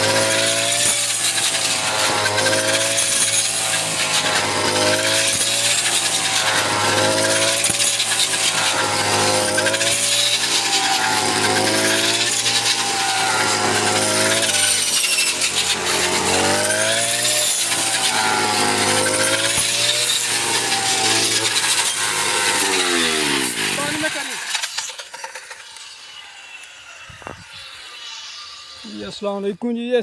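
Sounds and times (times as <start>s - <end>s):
farm machine engine running: 0.0s - 28.1s.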